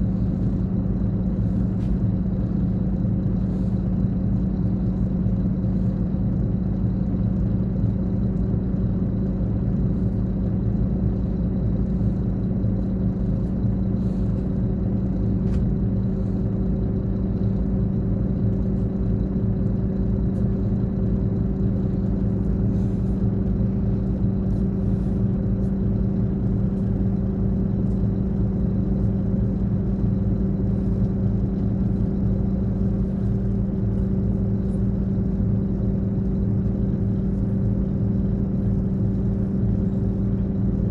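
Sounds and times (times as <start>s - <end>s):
diesel bus engine droning: 0.0s - 40.9s.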